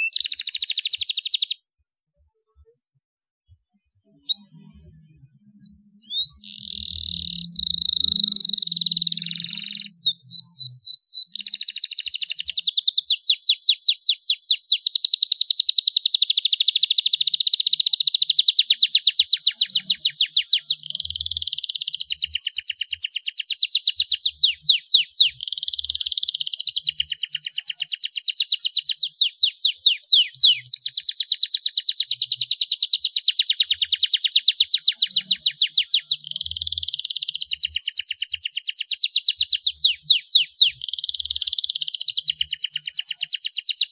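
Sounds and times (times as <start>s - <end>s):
canary singing trills: 0.0s - 1.7s, 4.1s - 43.9s.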